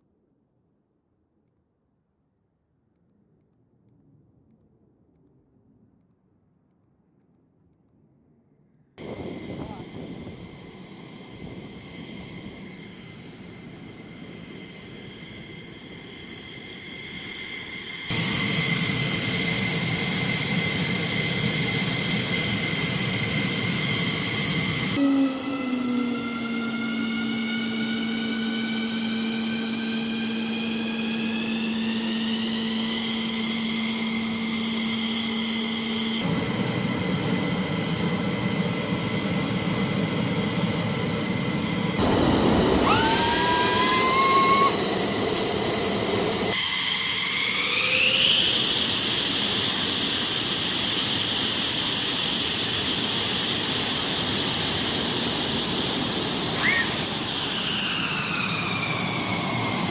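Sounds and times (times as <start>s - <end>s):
jet engines whining: 9.0s - 59.9s.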